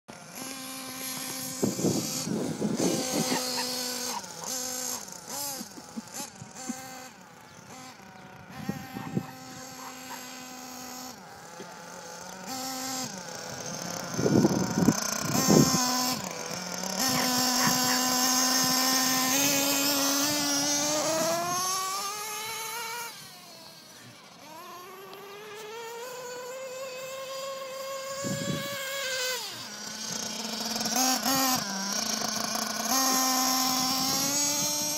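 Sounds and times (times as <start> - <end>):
small two-stroke engine buzzing: 0.1 - 34.9.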